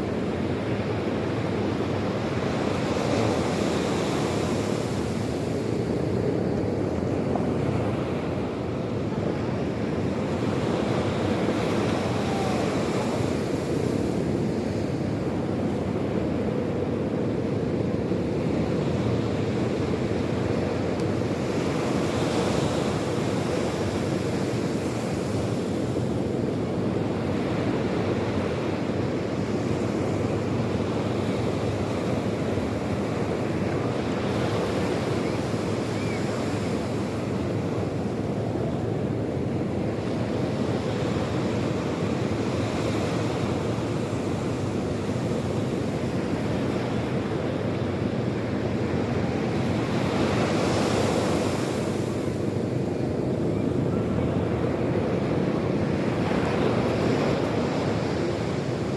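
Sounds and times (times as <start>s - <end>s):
sea waves breaking on shore: 0.0s - 58.9s
wind on microphone: 0.0s - 58.9s.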